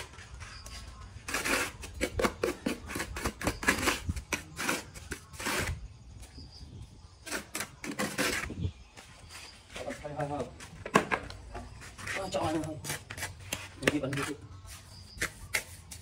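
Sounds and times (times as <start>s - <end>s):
scraping noises: 0.0s - 6.4s, 7.2s - 16.0s.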